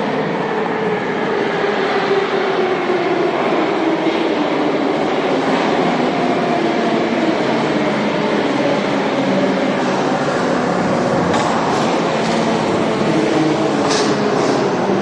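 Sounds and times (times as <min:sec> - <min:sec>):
subway train slowing with whine: 0:00.0 - 0:15.0.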